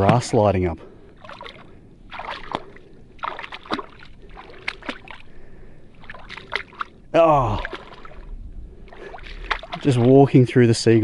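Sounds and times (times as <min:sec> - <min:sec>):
feet wading through shallow water: 0:01.0 - 0:11.0.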